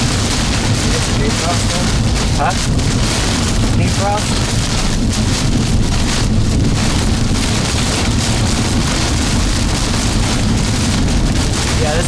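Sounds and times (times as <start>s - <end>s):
rain pounding on car: 0.0s - 12.0s
storm wind against car: 0.0s - 12.0s.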